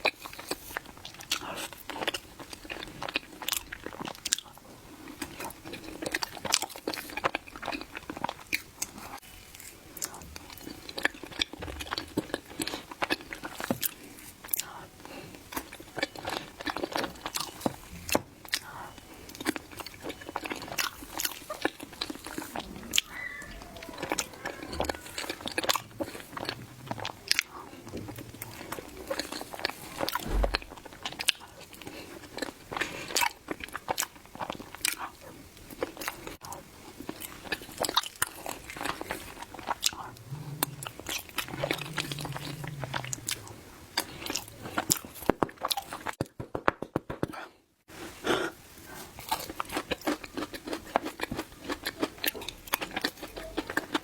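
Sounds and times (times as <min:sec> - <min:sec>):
wet chewing clicks and smacks: 0:00.0 - 0:46.3, 0:49.1 - 0:54.0.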